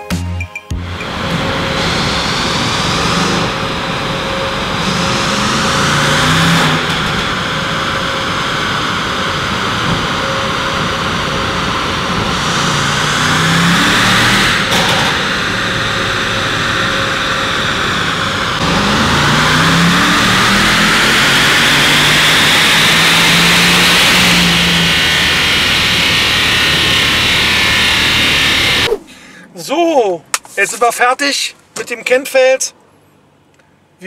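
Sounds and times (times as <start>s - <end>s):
car engine revving under load: 0.8s - 29.6s.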